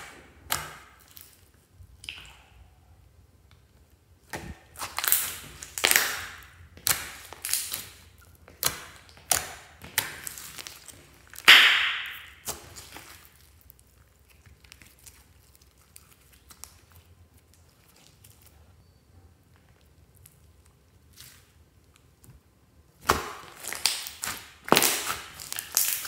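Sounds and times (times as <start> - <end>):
wet squishes of slime: 0.0 - 18.8, 19.4 - 26.0.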